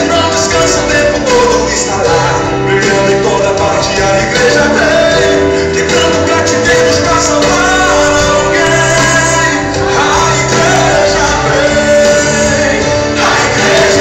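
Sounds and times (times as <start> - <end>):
gospel song with band: 0.0 - 14.0.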